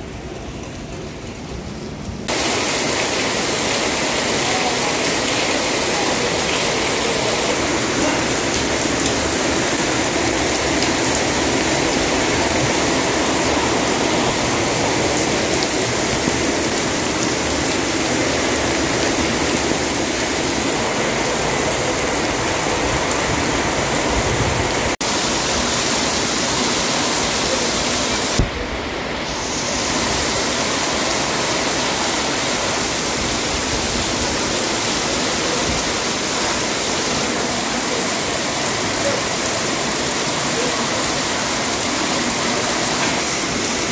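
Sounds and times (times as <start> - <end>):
heavy rain splashing on concrete: 0.0 - 43.9.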